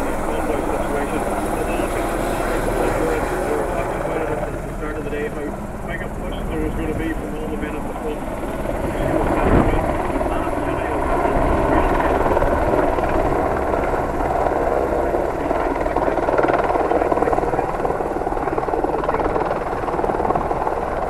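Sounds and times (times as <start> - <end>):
helicopter rotor beating: 0.0 - 21.0.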